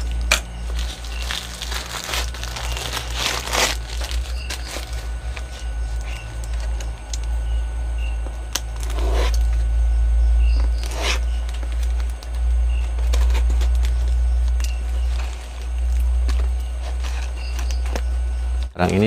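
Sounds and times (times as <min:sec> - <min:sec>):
tool scraping packing tape: 0:00.0 - 0:07.3, 0:08.5 - 0:09.7, 0:10.6 - 0:19.0
low hum: 0:00.0 - 0:19.0.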